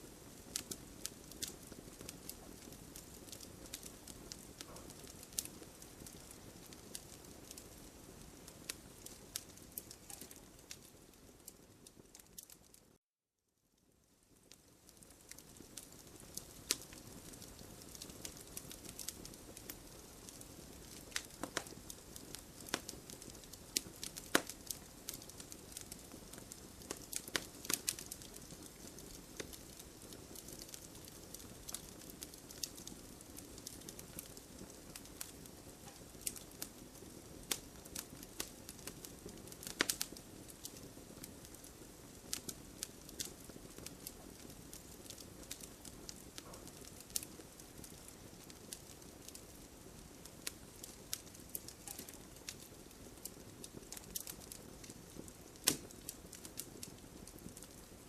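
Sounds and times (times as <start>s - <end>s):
campfire crackling and popping: 0.0s - 13.0s, 13.8s - 58.0s.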